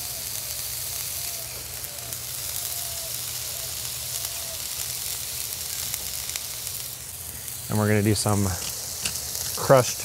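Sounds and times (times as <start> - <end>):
patties sizzling on griddle: 0.0 - 10.0.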